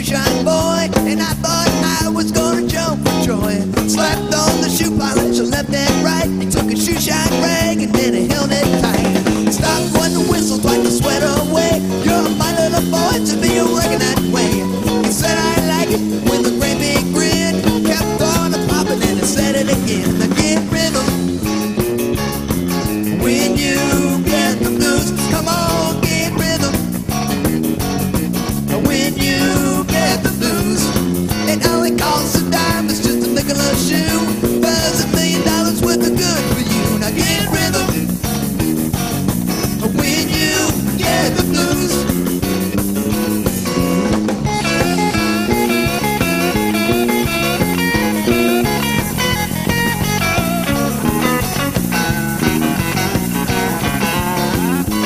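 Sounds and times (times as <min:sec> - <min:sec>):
bass line: 0:00.0 - 0:55.0
drums: 0:00.0 - 0:55.0
electric guitar lead: 0:00.0 - 0:55.0.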